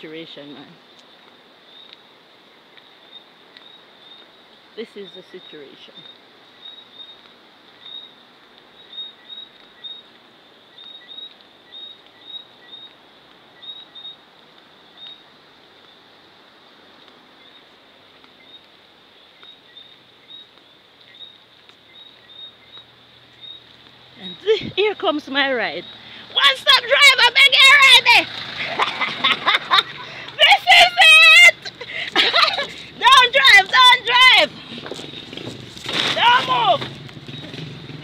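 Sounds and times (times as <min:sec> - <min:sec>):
faint steady hiss: 0:00.0 - 0:38.0.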